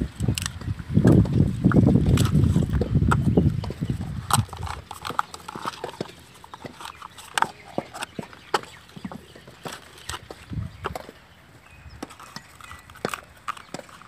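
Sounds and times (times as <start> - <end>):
coconut shells clacking: 0.0 - 11.3, 11.9 - 14.0.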